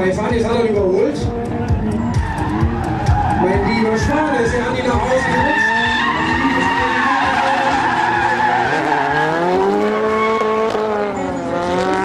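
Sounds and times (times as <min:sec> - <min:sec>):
car engines revving high: 0:00.0 - 0:12.0
tyres skidding: 0:00.6 - 0:12.0.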